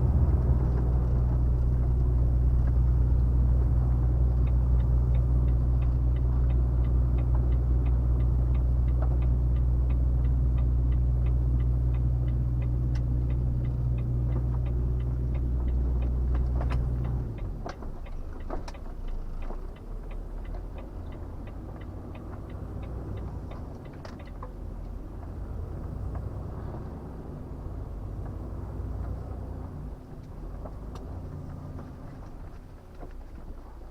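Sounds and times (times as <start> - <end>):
truck engine droning: 0.0 - 33.9
turn signal ticking: 0.0 - 33.9.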